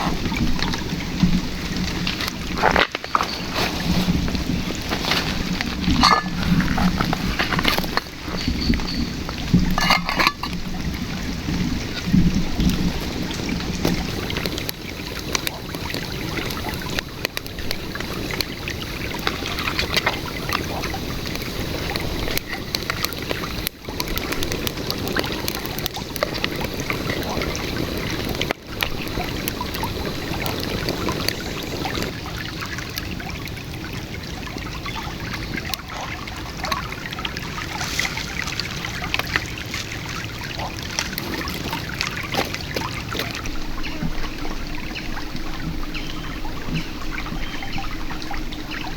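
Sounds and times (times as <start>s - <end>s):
river water over stones: 0.0s - 48.9s.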